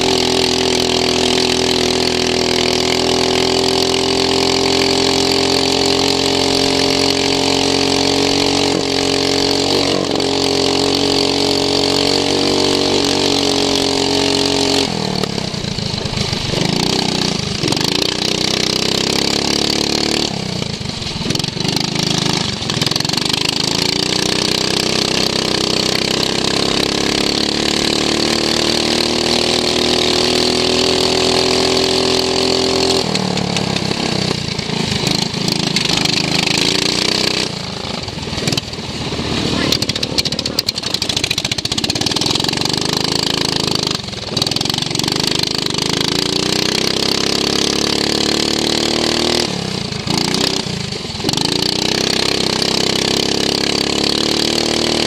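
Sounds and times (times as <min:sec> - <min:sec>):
lawn mower engine at high revs: 0:00.0 - 0:55.0.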